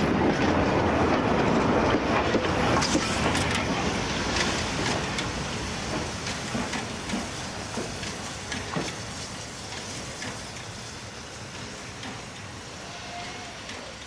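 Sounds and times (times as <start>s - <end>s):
clanks from locomotive wheels: 0.0s - 14.0s
steam locomotive hissing: 0.0s - 14.0s.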